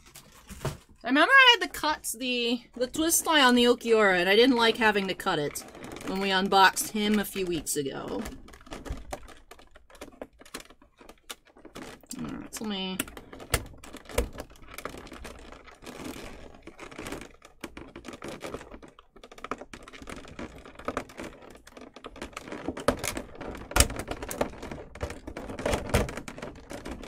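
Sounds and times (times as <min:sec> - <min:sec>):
stiff plastic crackling: 0:00.0 - 0:27.0.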